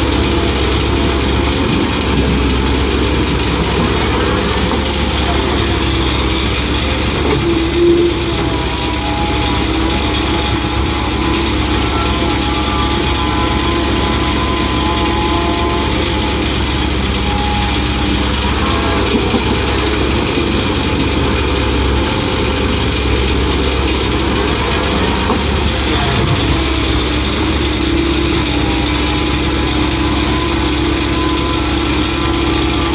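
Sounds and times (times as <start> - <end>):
excavator diesel engine running: 0.0 - 32.9
machine whining tones: 0.0 - 32.9.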